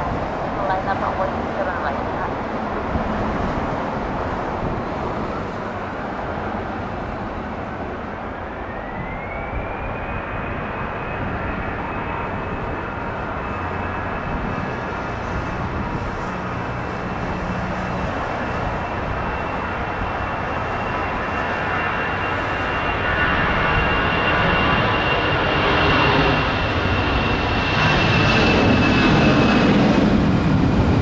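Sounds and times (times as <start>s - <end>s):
jet engine whine: 0.0s - 31.0s.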